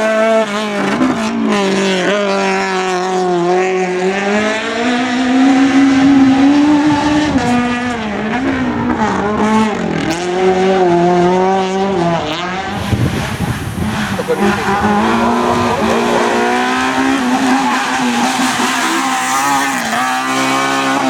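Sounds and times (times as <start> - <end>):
rally car engine driven hard: 0.0 - 21.0.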